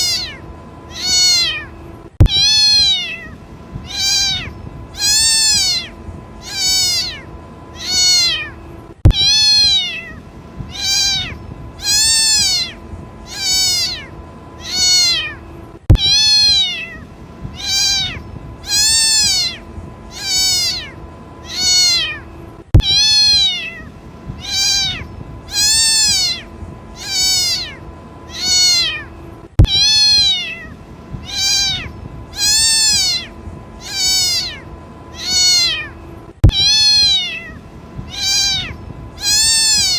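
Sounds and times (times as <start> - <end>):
kitten meowing: 0.0 - 22.2, 22.8 - 39.9.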